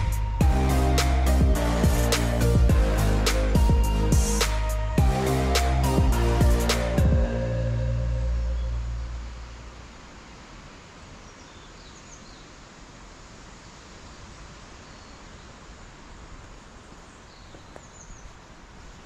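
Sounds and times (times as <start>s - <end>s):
woodland background hiss: 0.0s - 19.0s.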